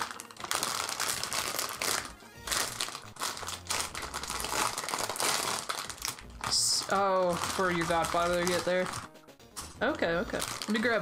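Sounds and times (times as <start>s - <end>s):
plastic packaging crinkling: 0.0s - 9.1s, 10.2s - 11.0s
background music: 0.0s - 11.0s.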